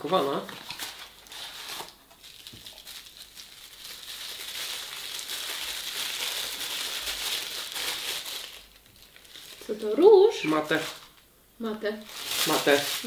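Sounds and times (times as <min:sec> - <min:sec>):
paper wrapping crinkling: 0:00.0 - 0:11.2, 0:12.0 - 0:13.0.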